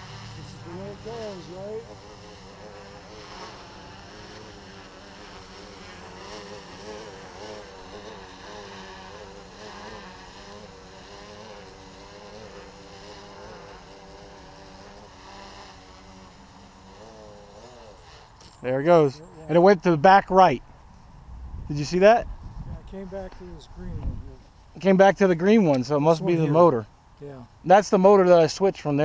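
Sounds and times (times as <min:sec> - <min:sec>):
quadcopter propellers buzzing: 0:00.0 - 0:29.0.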